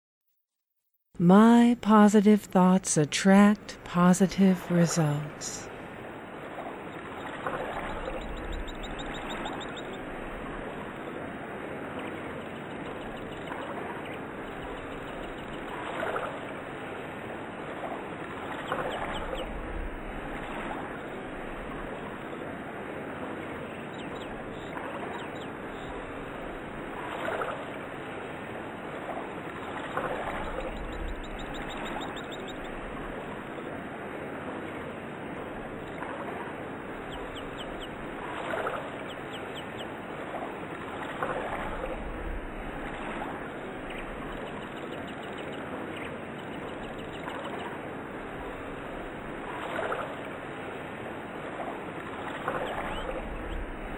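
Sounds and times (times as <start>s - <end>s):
birds chirping: 1.2s - 53.9s
running water: 1.3s - 53.9s.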